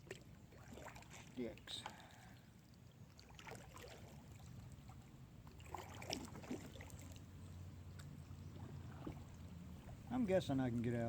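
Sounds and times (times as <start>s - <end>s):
faint water sounds: 0.0s - 11.0s.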